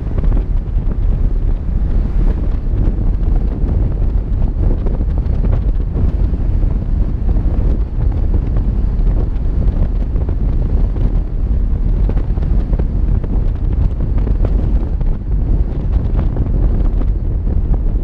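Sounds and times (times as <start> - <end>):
vehicle driving noise: 0.0 - 18.0
wind buffeting microphone: 0.0 - 18.0.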